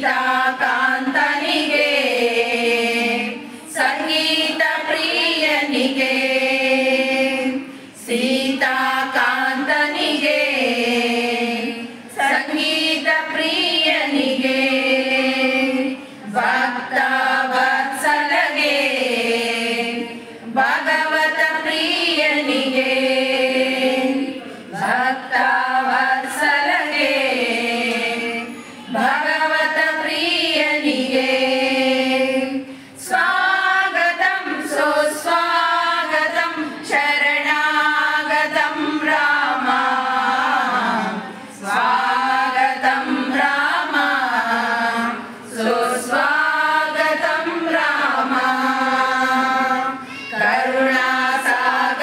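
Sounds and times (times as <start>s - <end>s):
women singing together: 0.0s - 52.0s.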